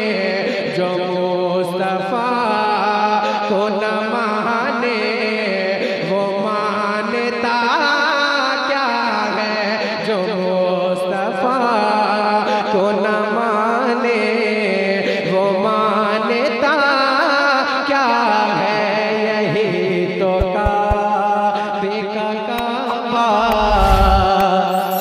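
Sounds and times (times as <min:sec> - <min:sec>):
man singing over loudspeaker: 0:00.0 - 0:23.5.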